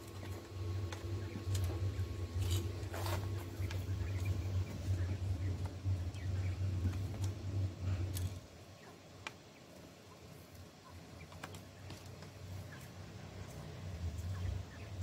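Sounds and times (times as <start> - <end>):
low steady hum: 0.0 - 15.0
quail pecking plastic feeder: 0.0 - 15.0.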